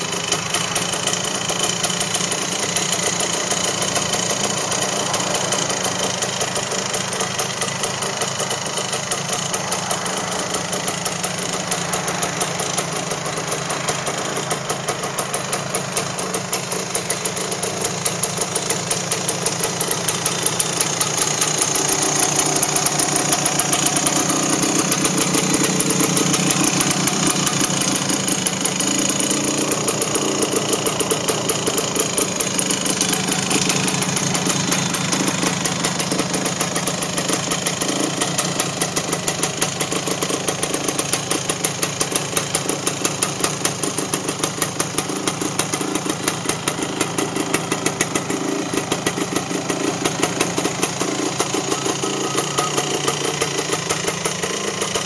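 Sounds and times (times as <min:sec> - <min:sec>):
two-stroke engine idling: 0:00.0 - 0:55.0.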